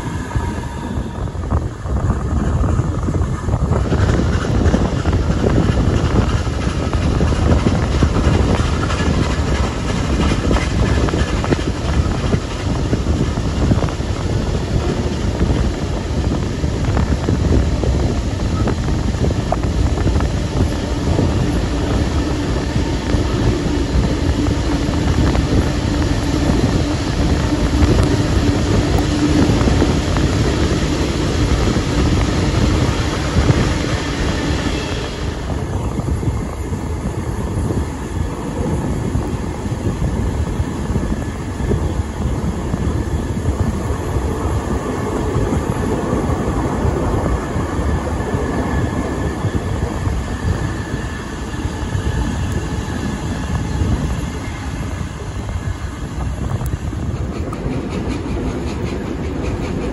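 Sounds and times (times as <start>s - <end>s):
train carriages rolling on track: 0.0s - 59.9s
wind rushing over microphone: 0.0s - 59.9s.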